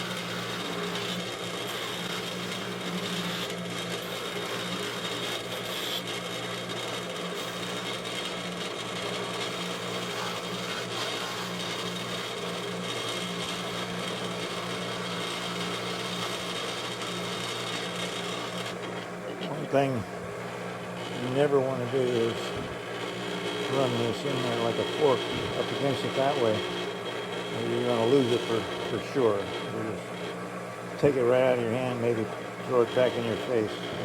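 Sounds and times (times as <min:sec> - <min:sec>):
bench buffer humming: 0:00.0 - 0:34.0.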